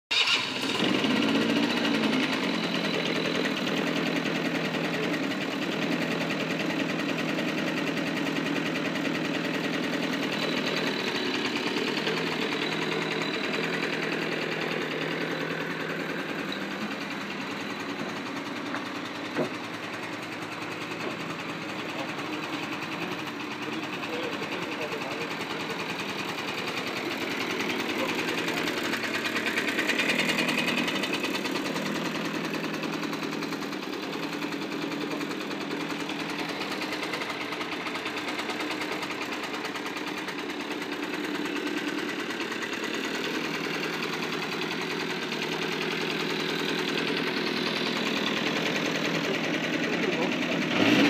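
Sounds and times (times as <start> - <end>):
moped engine idling: 0.1 - 51.0.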